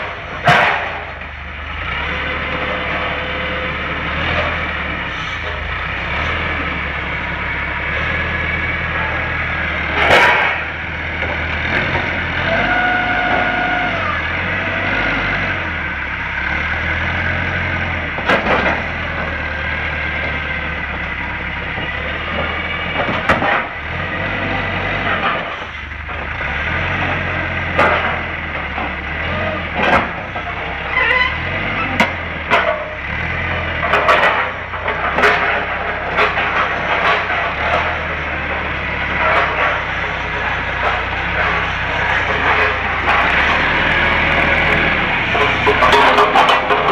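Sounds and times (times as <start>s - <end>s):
forklift engine running: 0.0s - 46.9s
platforms clanking: 0.0s - 46.9s.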